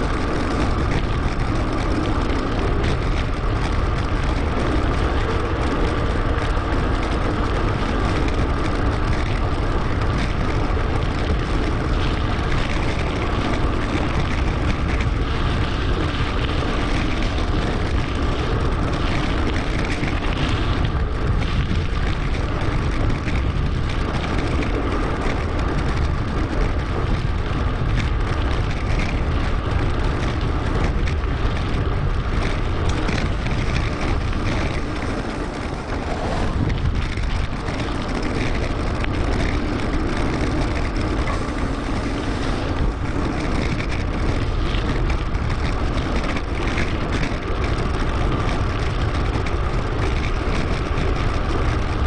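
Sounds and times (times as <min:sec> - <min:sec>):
bike tyres rolling: 0:00.0 - 0:52.0
wind rush: 0:00.0 - 0:52.0.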